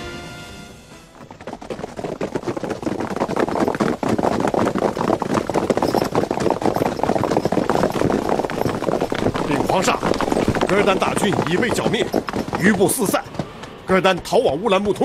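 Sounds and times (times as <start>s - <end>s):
hoofbeats of many horses: 0.0s - 15.0s.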